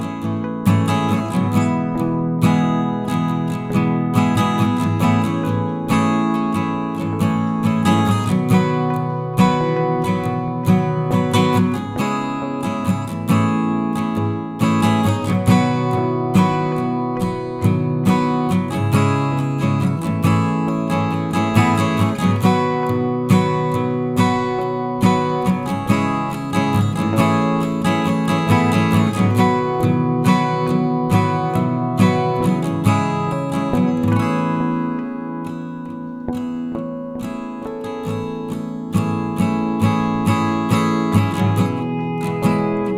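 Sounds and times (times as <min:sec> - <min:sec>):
strummed acoustic guitar: 0:00.0 - 0:42.9.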